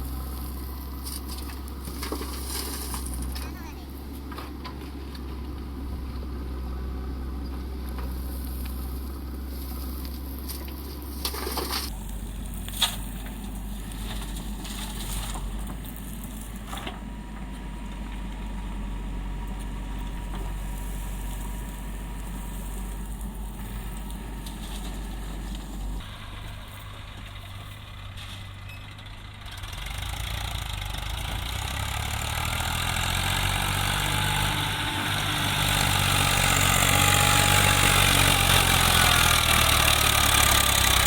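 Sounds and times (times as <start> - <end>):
diesel machinery engine running: 0.0 - 41.0.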